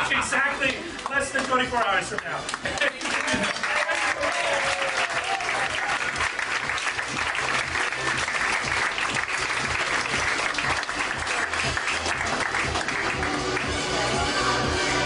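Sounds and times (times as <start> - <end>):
music playing: 0.0 - 15.0
audience applauding: 2.4 - 14.6.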